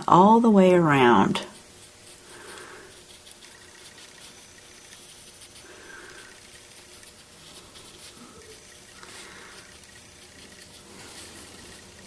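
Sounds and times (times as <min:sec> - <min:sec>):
paintbrush scratching on paper: 0:00.9 - 0:12.0
background hiss: 0:01.0 - 0:12.0.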